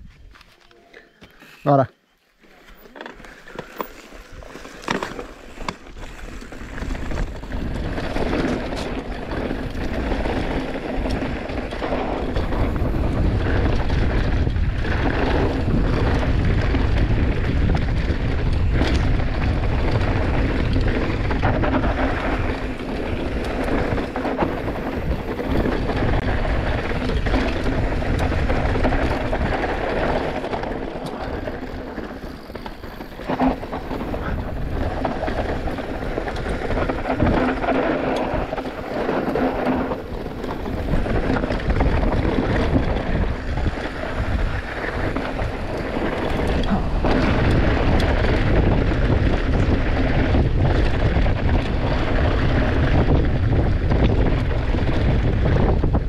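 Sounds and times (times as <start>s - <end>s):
bike tyres rolling over dirt: 2.2s - 56.0s
wind buffeting microphone: 3.5s - 56.0s.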